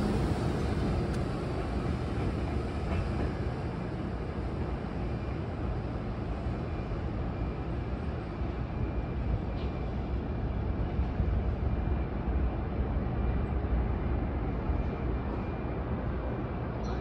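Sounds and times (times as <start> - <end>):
city background noise: 0.0 - 17.0
electric locomotive rumble: 0.0 - 17.0.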